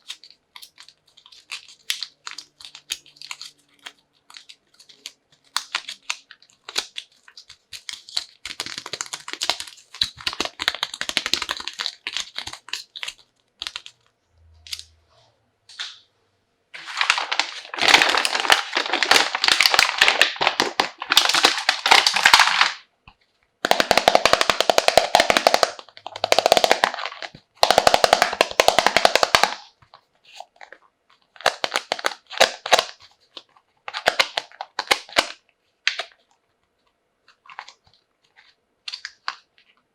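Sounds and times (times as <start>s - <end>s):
plastic packaging crinkling: 0.0s - 14.9s, 16.8s - 22.9s, 23.6s - 36.4s, 37.2s - 39.8s.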